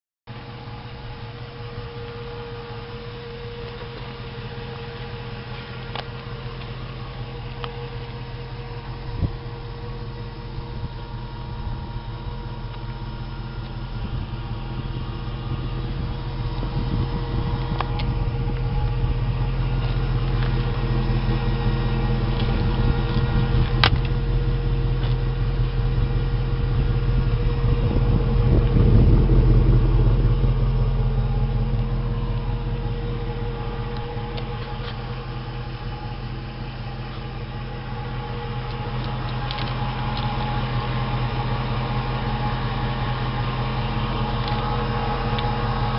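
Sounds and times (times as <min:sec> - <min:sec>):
car engine idling: 0:00.3 - 0:45.9.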